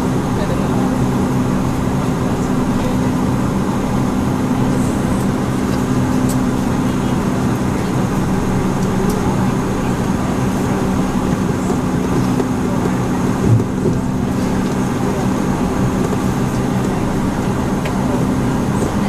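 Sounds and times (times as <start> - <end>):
propeller engine drone in cabin: 0.0 - 19.0.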